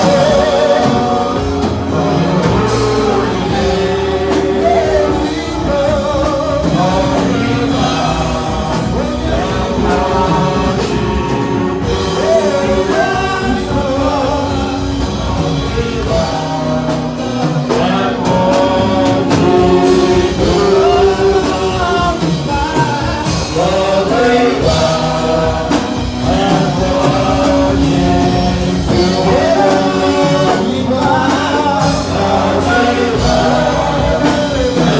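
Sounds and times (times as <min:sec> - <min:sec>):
instrumental backing music: 0:00.0 - 0:34.9
person singing: 0:00.0 - 0:34.9.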